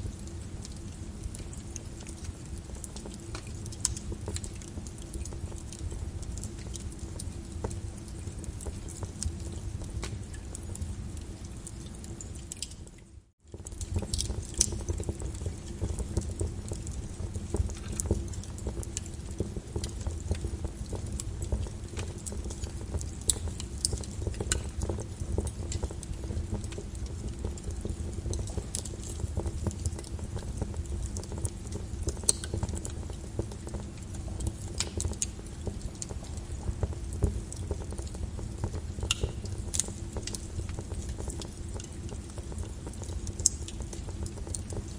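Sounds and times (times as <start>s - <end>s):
lava crackling and popping: 0.0s - 44.9s.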